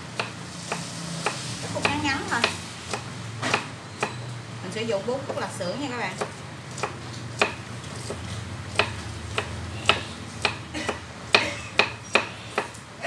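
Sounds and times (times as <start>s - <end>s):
knife chopping on wooden board: 0.1s - 4.2s, 6.2s - 12.8s.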